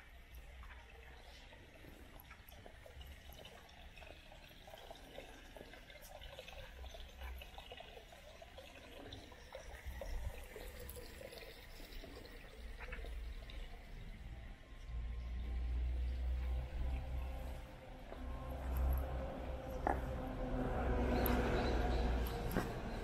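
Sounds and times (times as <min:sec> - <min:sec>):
faint trickling water: 0:00.0 - 0:23.0.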